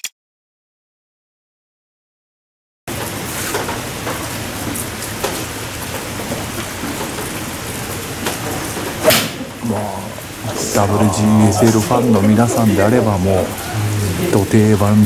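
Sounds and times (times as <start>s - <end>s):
steady outdoor hiss: 2.9s - 15.0s.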